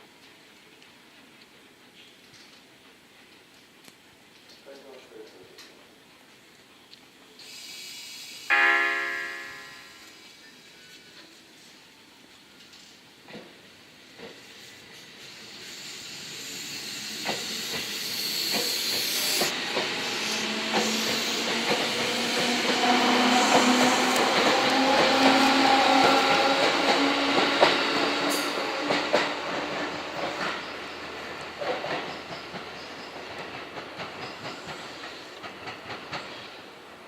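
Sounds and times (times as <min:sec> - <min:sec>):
wheel and rail noise: 0:00.0 - 0:37.0.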